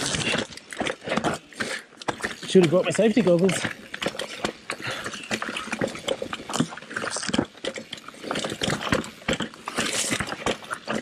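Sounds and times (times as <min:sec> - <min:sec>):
tyres crunching over dirt: 0:00.0 - 0:11.0
bike rattling: 0:02.1 - 0:11.0.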